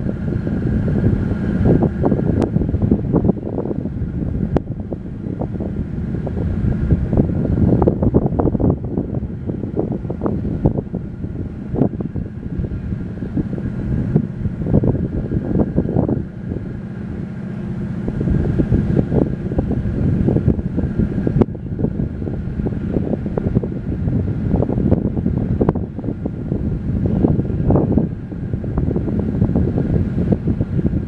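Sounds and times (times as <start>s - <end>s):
distant ferry drone: 0.0s - 31.0s
wind buffeting microphone: 0.0s - 31.0s.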